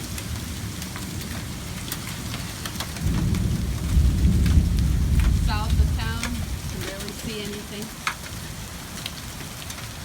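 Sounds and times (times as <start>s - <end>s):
hailstones ticking on metal: 0.0s - 10.0s
heavy rain on a van: 0.0s - 10.0s.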